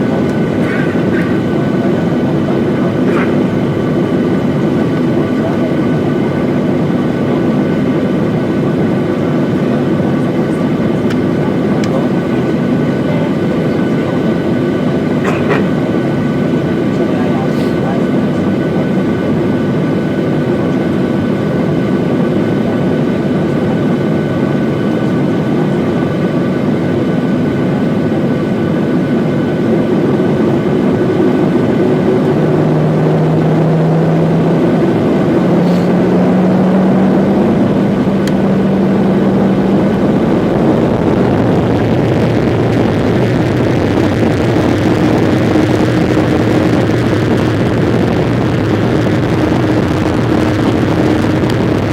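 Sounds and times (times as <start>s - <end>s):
airliner engines running: 0.0s - 51.9s.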